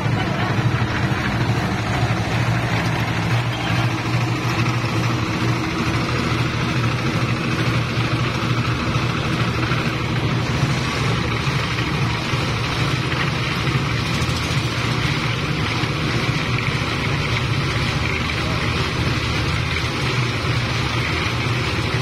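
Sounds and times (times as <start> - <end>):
small engine droning: 0.0 - 22.0.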